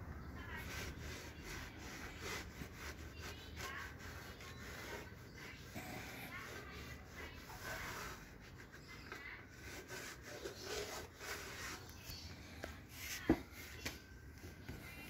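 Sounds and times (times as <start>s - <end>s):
cloth rubbing over metal: 0.4s - 15.0s.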